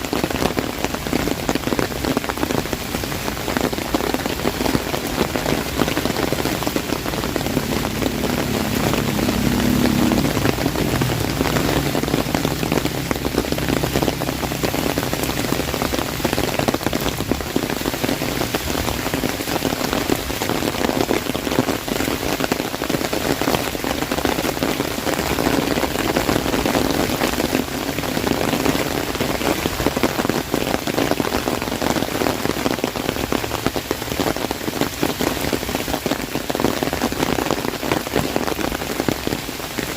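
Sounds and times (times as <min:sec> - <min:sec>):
heavy rain on umbrella: 0:00.0 - 0:39.9.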